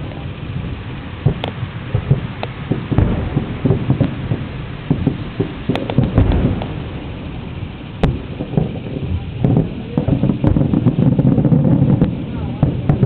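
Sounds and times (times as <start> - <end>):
fireworks bangs and crackles: 0.0 - 13.0
loud firework bang: 0.0 - 13.0.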